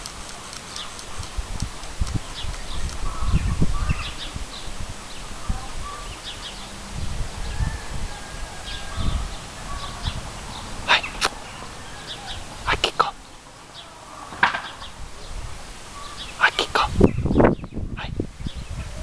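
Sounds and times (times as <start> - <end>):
small birds chirping: 0.0 - 7.8, 8.7 - 19.0.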